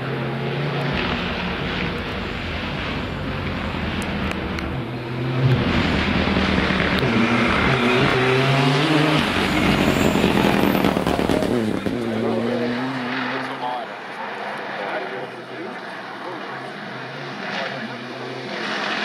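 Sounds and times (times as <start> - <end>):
rally car engine revving through gears: 0.0 - 19.0.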